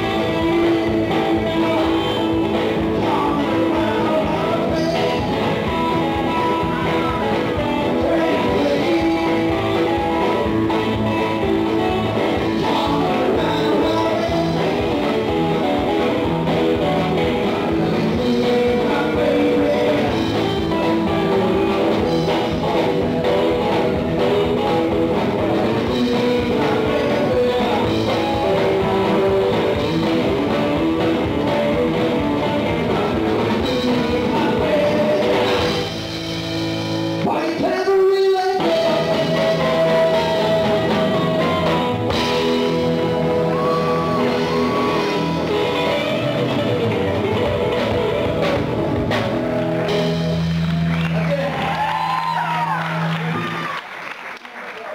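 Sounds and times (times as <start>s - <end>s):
lead vocal singing: 0.0s - 36.1s, 37.2s - 48.5s
live rock and roll band: 0.0s - 54.9s.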